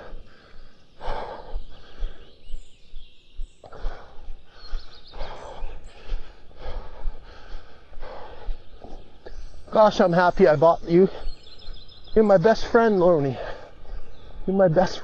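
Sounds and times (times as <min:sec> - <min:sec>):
heavy breathing: 0:00.0 - 0:09.9, 0:10.8 - 0:15.0
faint bird chirp: 0:00.0 - 0:15.0.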